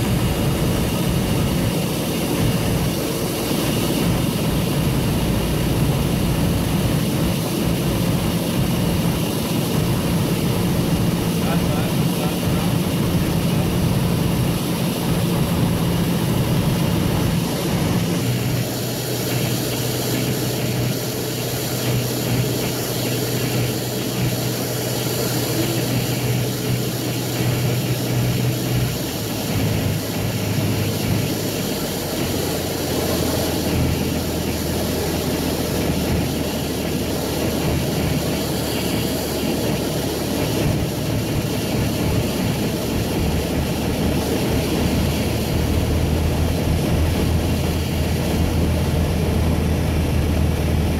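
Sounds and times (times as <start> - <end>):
propeller engine droning: 0.0 - 50.9.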